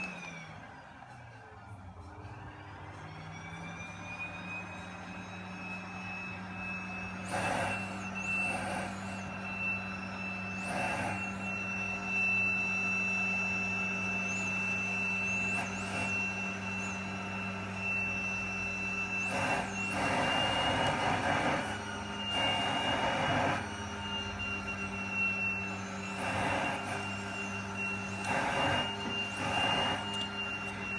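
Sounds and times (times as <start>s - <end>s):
vacuum cleaner motor whining: 0.0s - 30.9s.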